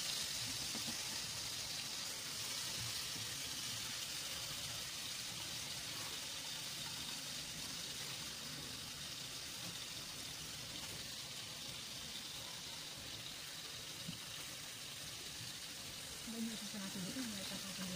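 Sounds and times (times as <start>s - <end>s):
sausages sizzling in hot oil: 0.0s - 17.9s.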